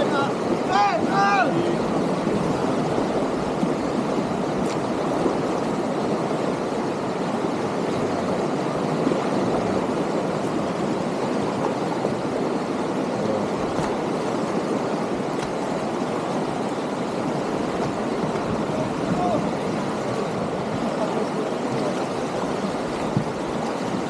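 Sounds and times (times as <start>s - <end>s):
whitewater rapids roaring: 0.0s - 24.0s.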